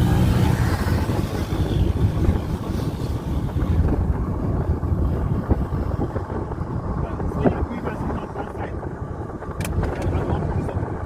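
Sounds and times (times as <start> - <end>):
car road rumble: 0.0 - 11.0
wind buffeting microphone: 0.0 - 11.0.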